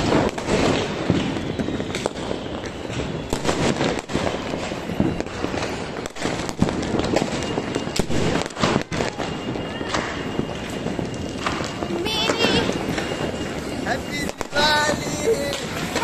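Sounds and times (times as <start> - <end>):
distant firecrackers crackling: 0.0 - 16.0
firecracker bangs: 0.0 - 16.0.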